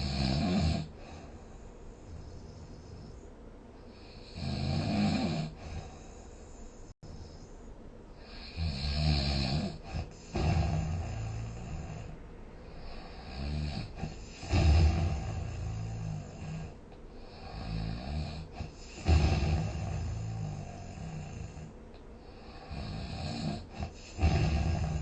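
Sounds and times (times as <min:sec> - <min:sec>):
person snoring: 0:00.0 - 0:01.4, 0:03.9 - 0:07.4, 0:08.2 - 0:25.0.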